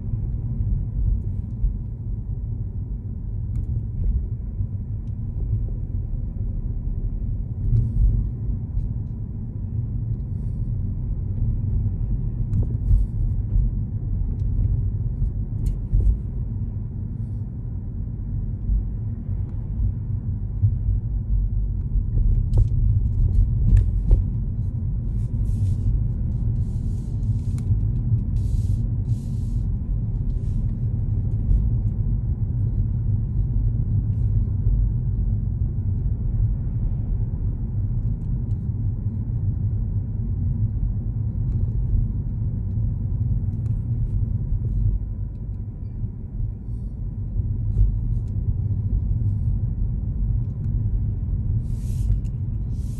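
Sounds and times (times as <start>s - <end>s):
car engine and tyres rumbling: 0.0s - 52.9s.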